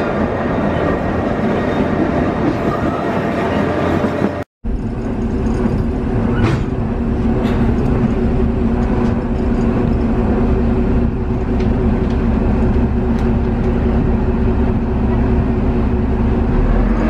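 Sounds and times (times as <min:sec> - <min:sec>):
train diesel engine humming: 0:00.0 - 0:17.0.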